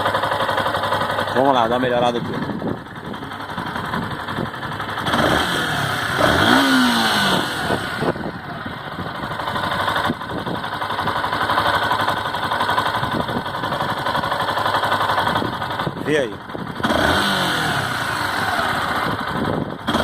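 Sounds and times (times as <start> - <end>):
motorcycle engine revving and idling: 0.0 - 20.0.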